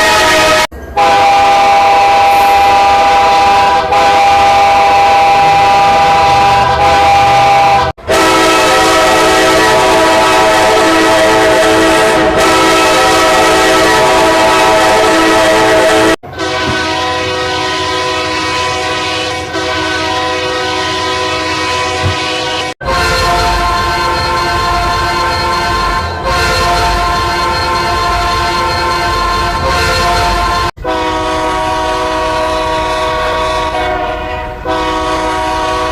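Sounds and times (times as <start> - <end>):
train horn blasts: 0.0 - 35.9.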